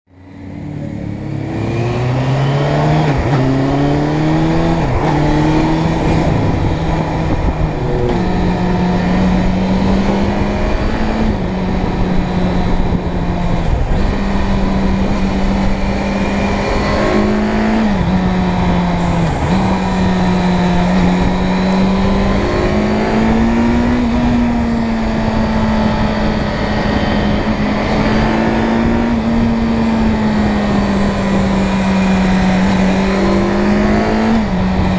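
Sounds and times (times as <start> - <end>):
motorcycle engine revving: 0.1 - 34.9
wind rushing: 1.4 - 34.9.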